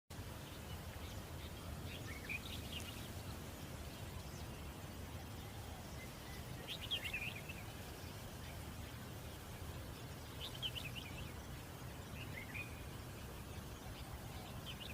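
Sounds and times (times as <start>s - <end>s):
birds chirping: 0.1s - 14.9s.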